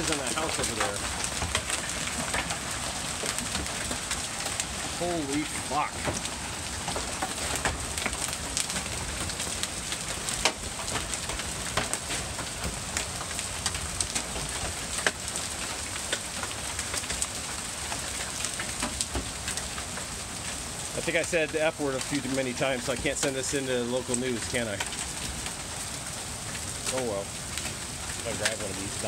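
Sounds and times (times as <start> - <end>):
hailstones cracking on surfaces: 0.0 - 29.0
hailstorm hiss: 0.0 - 29.0.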